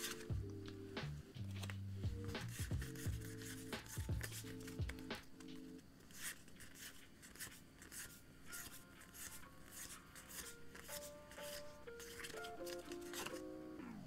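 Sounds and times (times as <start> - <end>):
cards swishing: 0.0 - 0.3, 1.0 - 13.5
quiet background music: 0.0 - 14.0.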